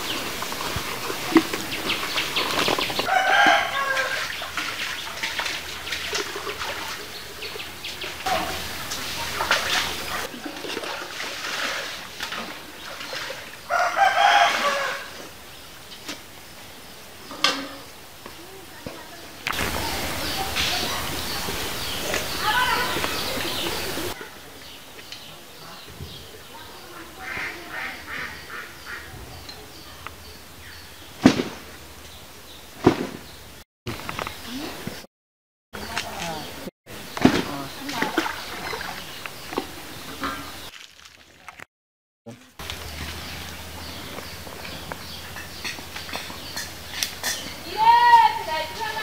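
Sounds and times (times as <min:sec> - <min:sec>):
steady outdoor background: 0:00.0 - 0:35.1, 0:35.7 - 0:49.0.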